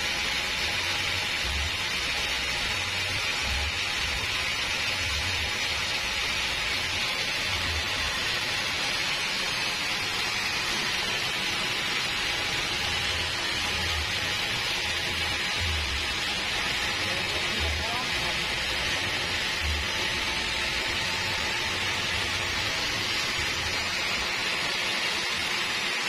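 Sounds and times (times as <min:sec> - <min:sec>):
band sawmill whirring: 0:00.0 - 0:26.0.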